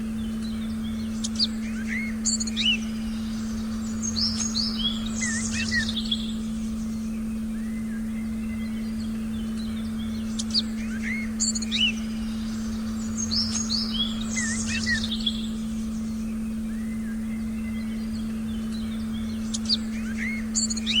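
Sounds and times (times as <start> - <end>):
songbirds chirping: 0.0 - 21.0
steady low tone: 0.0 - 21.0.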